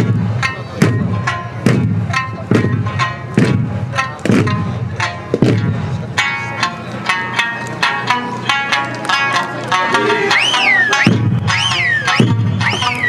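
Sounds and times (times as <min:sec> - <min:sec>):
plucked string tone: 0:00.0 - 0:13.0
taiko drums beating: 0:00.0 - 0:13.0.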